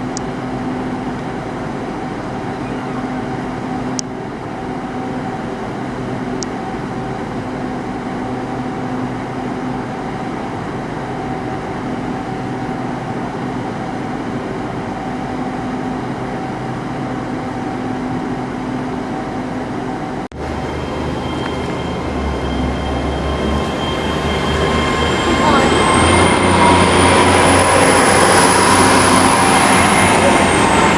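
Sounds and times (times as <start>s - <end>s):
diesel train engine humming: 0.0s - 30.9s.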